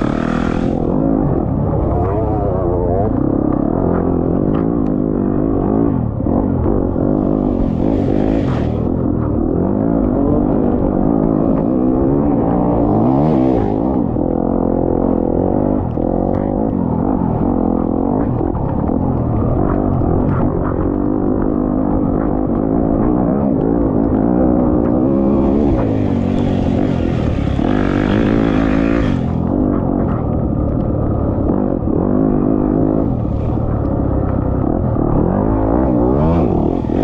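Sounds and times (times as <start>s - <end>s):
racing engine revving: 0.0s - 37.0s.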